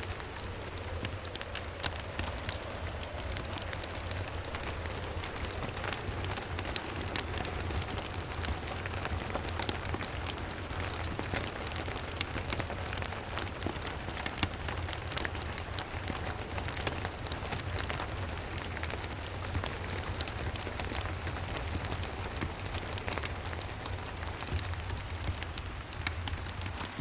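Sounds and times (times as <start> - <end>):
steady rain falling: 0.0 - 27.0
wood fire crackling: 0.0 - 27.0.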